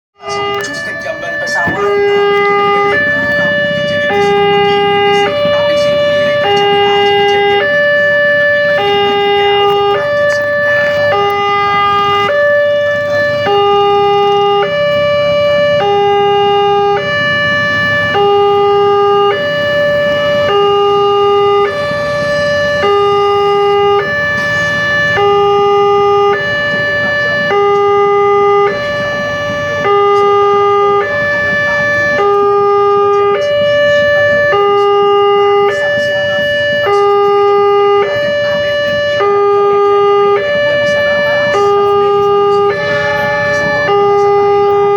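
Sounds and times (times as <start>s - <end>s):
level crossing two-tone alarm: 0.2s - 44.9s.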